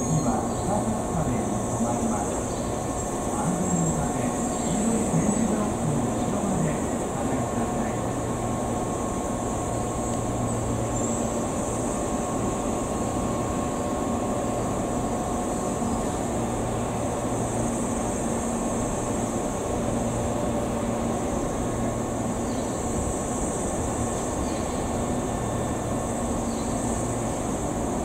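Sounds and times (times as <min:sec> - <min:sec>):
constant high hiss: 0:00.0 - 0:28.0
electric train humming and whining: 0:00.0 - 0:28.0.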